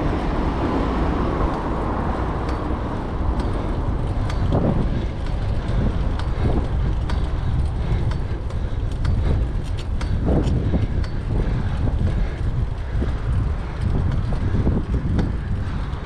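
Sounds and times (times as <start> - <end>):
bicycle road noise: 0.0 - 16.0
wind buffeting microphone: 0.0 - 16.0
small clicks and rattles: 2.2 - 16.0.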